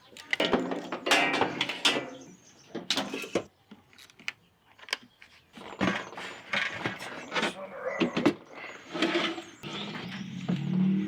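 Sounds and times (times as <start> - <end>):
hand tools and cables clinking: 0.0 - 9.7.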